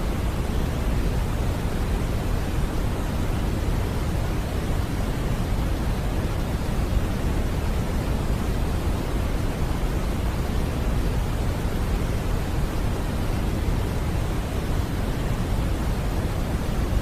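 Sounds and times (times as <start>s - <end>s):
deep white noise rush: 0.0s - 17.0s.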